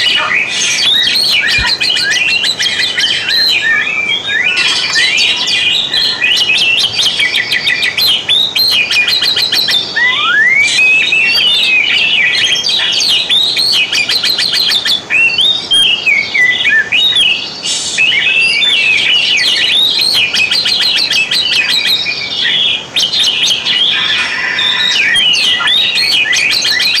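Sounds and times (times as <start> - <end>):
bird singing whistles and trills: 0.0 - 27.0.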